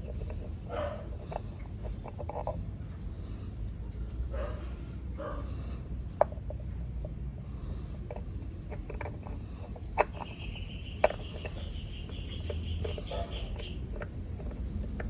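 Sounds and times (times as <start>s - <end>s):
light rubbing by hand: 0.0s - 15.0s.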